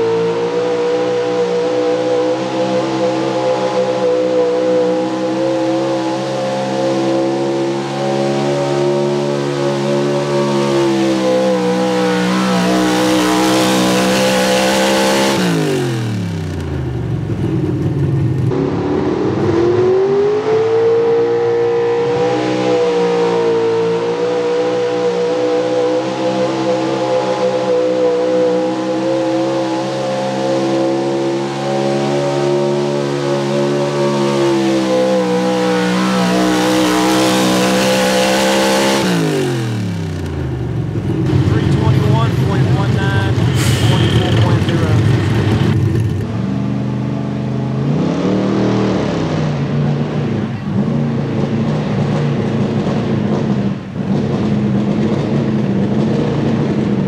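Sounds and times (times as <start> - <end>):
truck engine revving high: 0.0 - 57.0.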